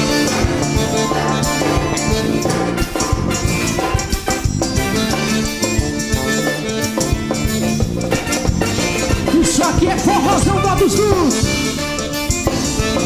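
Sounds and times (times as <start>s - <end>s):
drums beating: 0.0s - 13.0s
upbeat band music: 0.0s - 13.0s.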